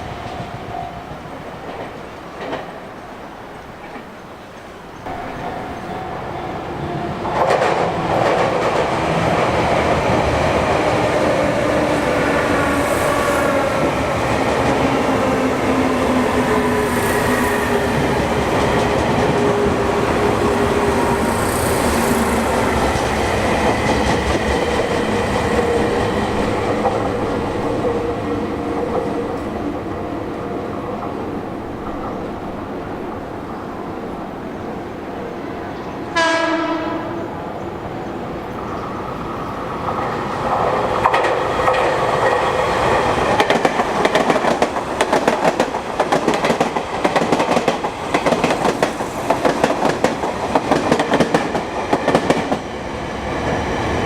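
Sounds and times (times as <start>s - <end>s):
train wheels rumbling: 0.0s - 54.0s
electric train whining: 5.0s - 54.0s.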